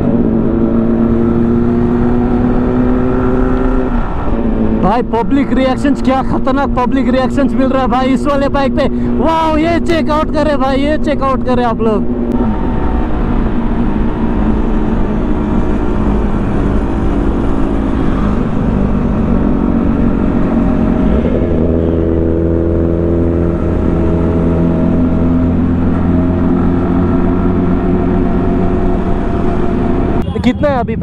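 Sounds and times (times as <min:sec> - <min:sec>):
motorcycle engines running: 0:00.0 - 0:31.0
road and wind noise: 0:00.0 - 0:31.0.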